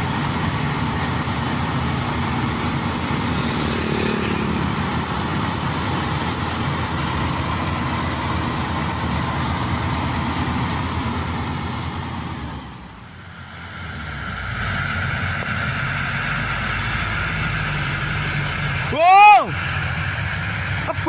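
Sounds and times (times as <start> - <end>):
combine harvester engine rumble: 0.0 - 21.0
truck engine running: 0.0 - 21.0.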